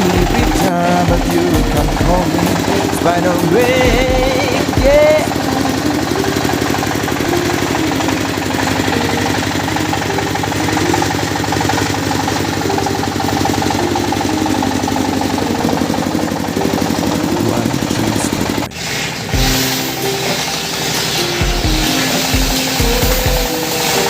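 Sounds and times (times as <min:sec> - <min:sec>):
saw engine running: 0:00.0 - 0:24.0.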